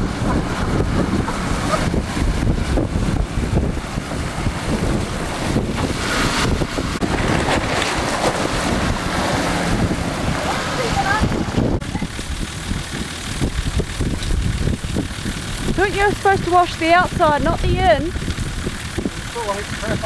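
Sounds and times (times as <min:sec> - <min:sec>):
water surging and splashing: 0:00.0 - 0:20.0
wind rumble on microphone: 0:00.0 - 0:20.0.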